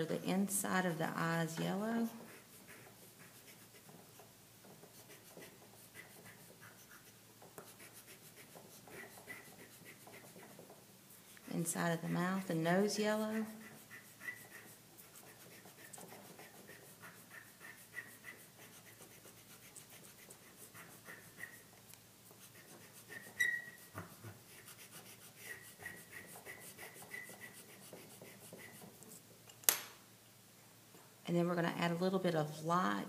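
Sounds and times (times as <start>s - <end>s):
chalk scratching on paper: 0.0s - 29.3s.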